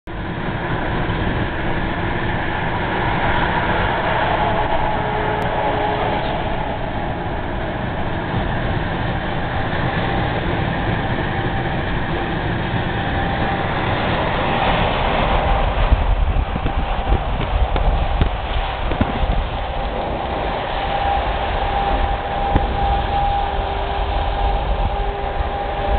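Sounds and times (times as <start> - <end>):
wind noise: 0.1 - 25.9.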